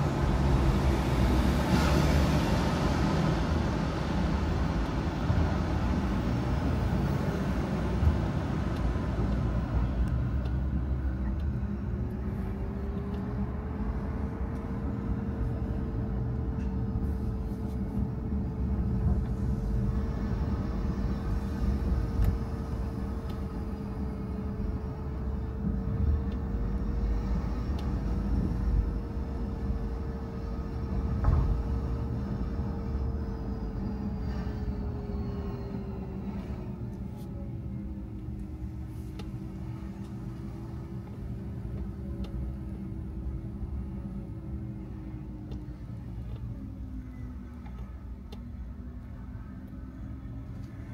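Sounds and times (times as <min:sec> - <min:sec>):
car engine: 0:00.0 - 0:50.9
road rumble: 0:00.0 - 0:50.9
whine: 0:00.0 - 0:50.9.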